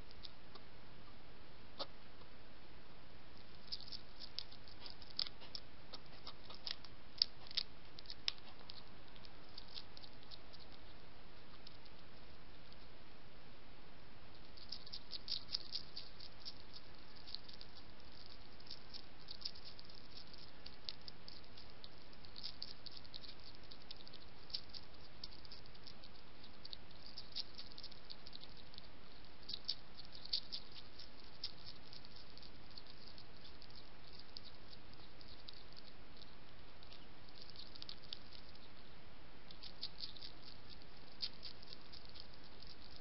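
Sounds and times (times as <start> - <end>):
hedgehog crunching biscuits: 3.4 - 10.9, 14.4 - 38.8, 39.5 - 43.0.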